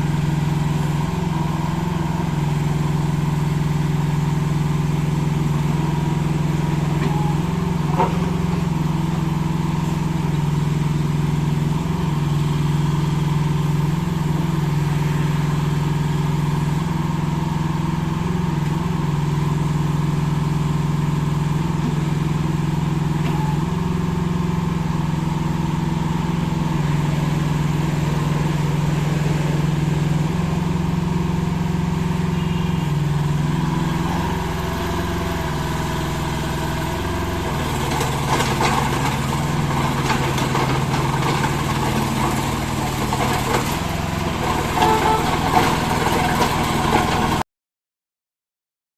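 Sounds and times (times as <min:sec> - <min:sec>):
small diesel engine running: 0:00.0 - 0:47.4.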